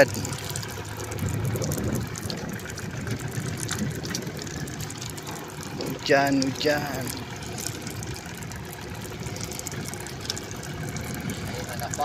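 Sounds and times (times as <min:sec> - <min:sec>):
rain falling on water: 0:00.0 - 0:12.0
steady low hum: 0:00.0 - 0:12.0
water sloshing: 0:00.0 - 0:12.0.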